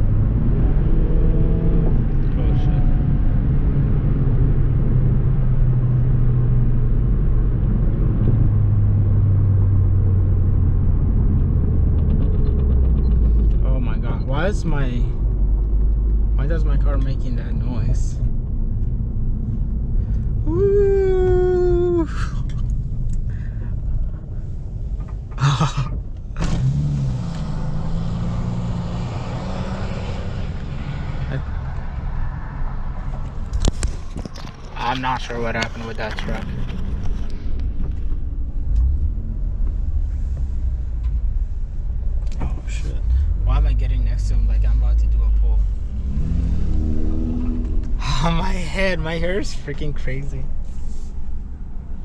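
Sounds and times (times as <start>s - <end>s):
car engine droning: 0.0s - 52.0s
rushing road noise: 0.0s - 52.0s.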